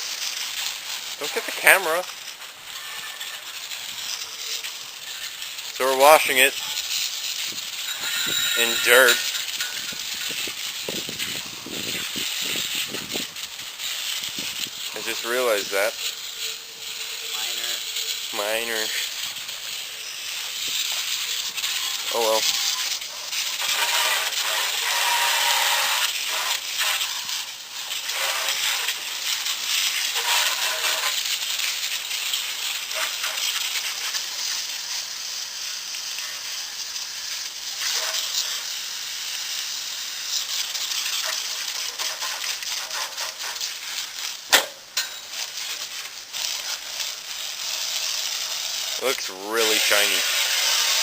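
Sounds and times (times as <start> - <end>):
water spraying on metal tubing: 0.0 - 51.0.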